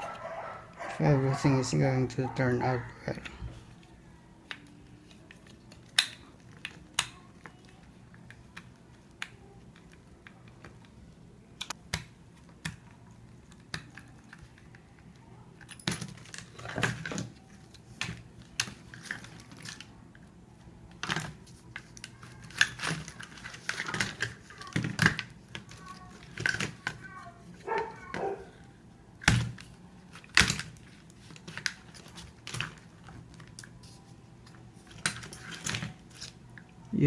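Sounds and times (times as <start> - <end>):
plastic fan parts clicking: 3.1 - 37.0.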